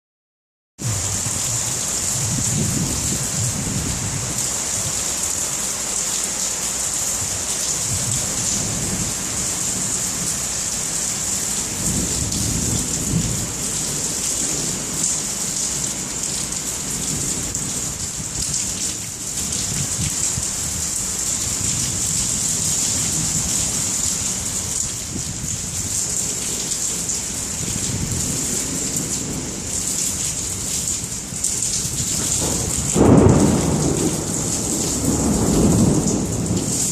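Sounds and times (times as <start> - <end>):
thunder rumbling: 0.8 - 5.0, 7.2 - 26.2, 27.5 - 36.9
heavy rain hissing: 0.8 - 36.9.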